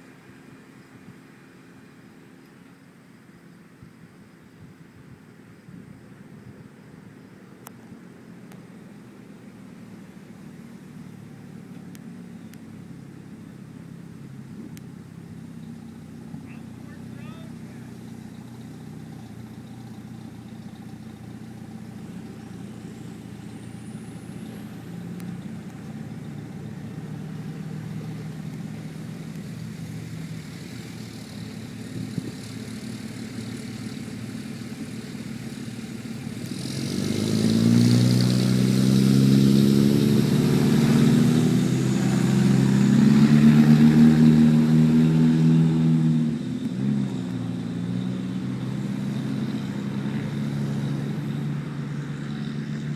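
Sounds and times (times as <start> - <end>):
vehicle engine running and revving: 7.4 - 52.9.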